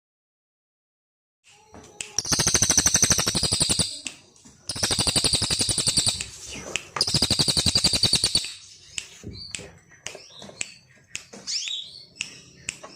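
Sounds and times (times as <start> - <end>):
songbird trilling chirps: 2.1 - 12.9.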